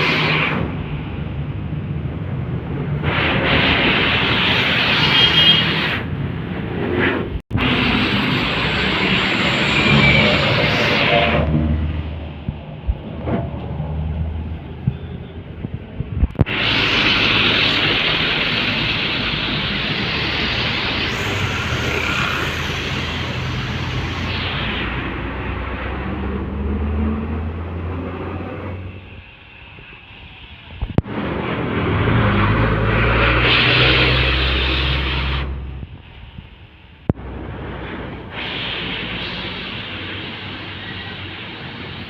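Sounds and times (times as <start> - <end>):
heavy truck passing: 0.0 - 29.2, 31.1 - 36.0
loud steady rush of noise: 0.0 - 42.0
traffic engine drone: 0.0 - 42.0
tyre and road noise: 0.0 - 42.0.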